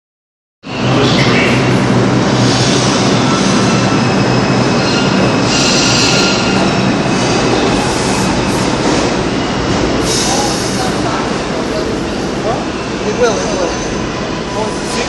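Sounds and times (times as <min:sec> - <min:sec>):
subway train wheels rumbling: 0:00.7 - 0:15.0.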